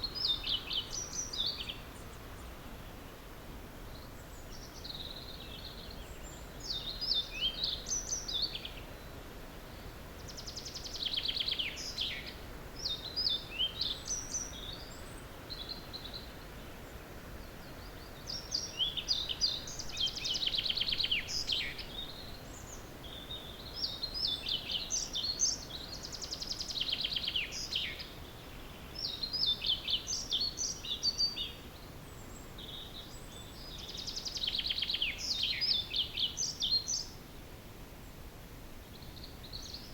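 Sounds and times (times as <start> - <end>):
songbirds singing: 0.0 - 38.2, 38.8 - 39.9
steady background hiss: 0.0 - 39.9.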